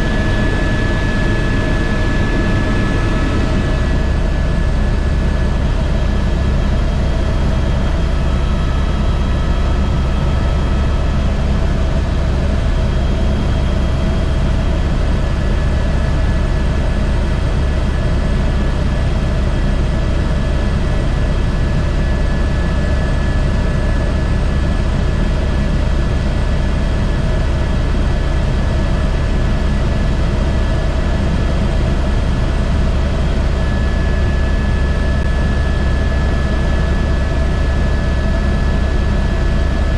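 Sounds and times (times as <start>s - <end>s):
helicopter rotor drone: 0.0s - 39.9s
helicopter turbine whine: 0.0s - 39.9s.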